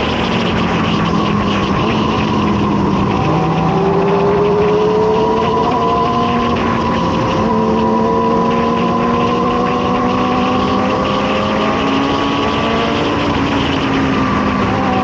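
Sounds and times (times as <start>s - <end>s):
constant rushing noise: 0.0s - 15.0s
motorcycle engines running: 0.0s - 15.0s.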